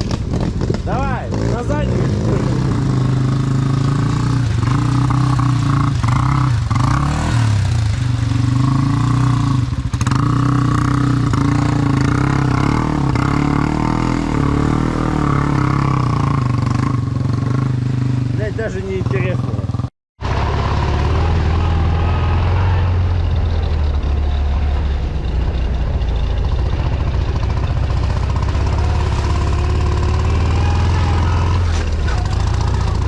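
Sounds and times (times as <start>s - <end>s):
off-road motorcycle engine: 0.0s - 33.0s.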